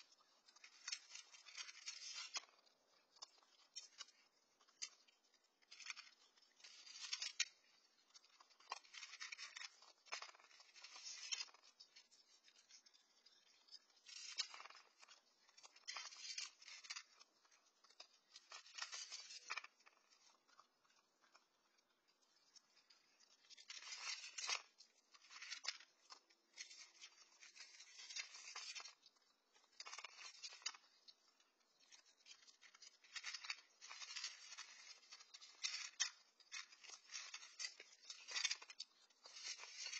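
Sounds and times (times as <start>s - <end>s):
animals crunching kibble: 0.1s - 39.9s.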